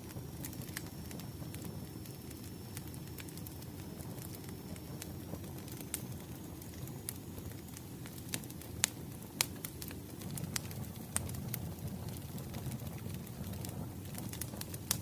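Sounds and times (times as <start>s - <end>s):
firewood popping: 0.0s - 15.0s
low rumble of burning fire: 0.0s - 15.0s.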